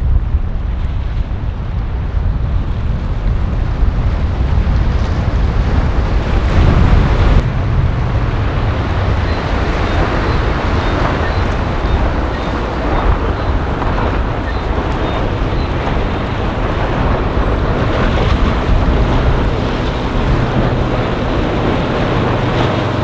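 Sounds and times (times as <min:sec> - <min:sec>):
boat engines: 0:00.0 - 0:23.0
surf: 0:00.0 - 0:23.0
wind buffeting microphone: 0:00.0 - 0:23.0.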